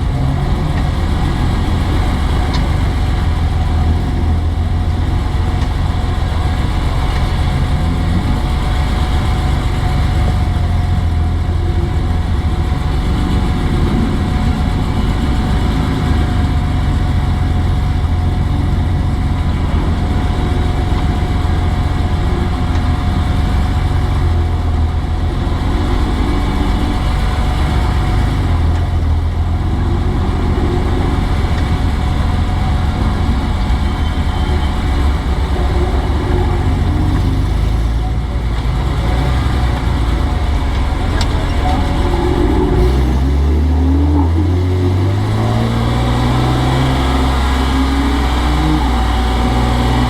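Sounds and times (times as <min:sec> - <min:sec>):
car engine revving: 0:00.0 - 0:50.0
road and wind noise: 0:00.0 - 0:50.0.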